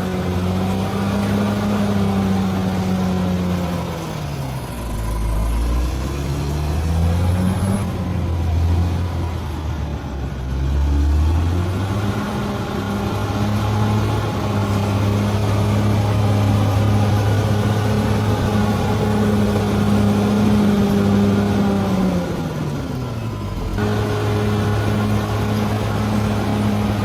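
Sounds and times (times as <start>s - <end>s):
bulldozer diesel engine: 0.0s - 27.0s.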